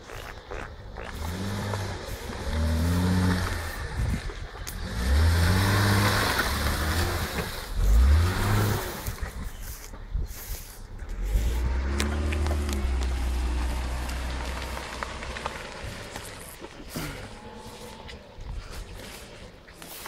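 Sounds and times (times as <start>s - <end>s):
engine revving under load: 0.0s - 9.8s, 10.4s - 19.6s.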